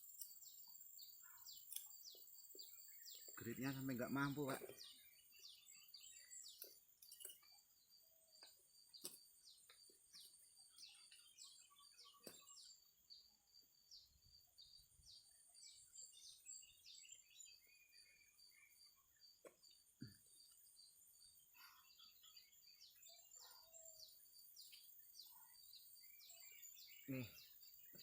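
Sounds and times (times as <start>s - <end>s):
bird chirping: 0.0s - 28.0s.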